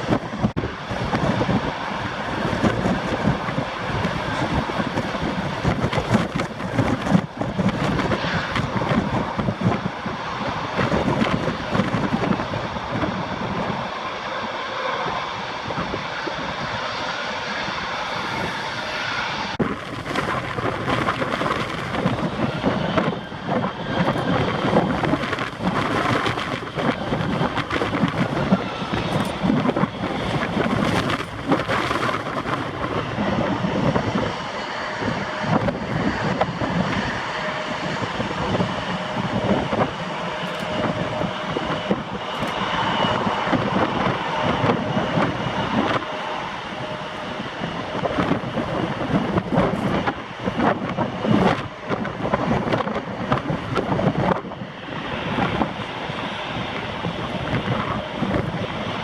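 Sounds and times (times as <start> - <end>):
aircraft engine noise: 0.0 - 59.0
wind buffeting microphone: 0.0 - 59.0.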